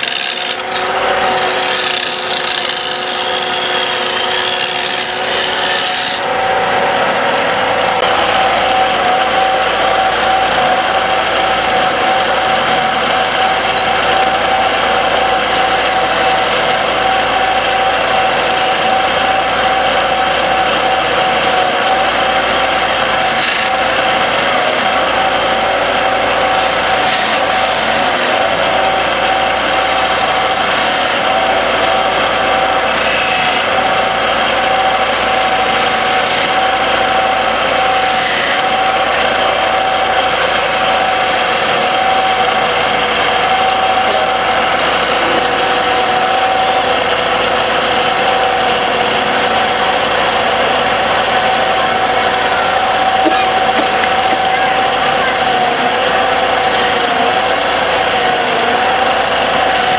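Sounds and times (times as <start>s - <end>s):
tool scraping spinning wood: 0.0s - 59.9s
wood lathe humming: 0.0s - 59.9s.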